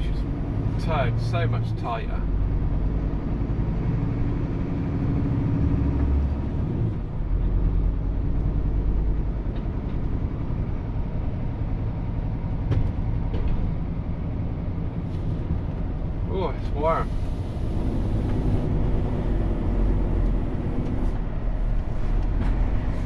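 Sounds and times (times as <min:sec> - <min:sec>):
truck diesel engine drone: 0:00.0 - 0:23.0.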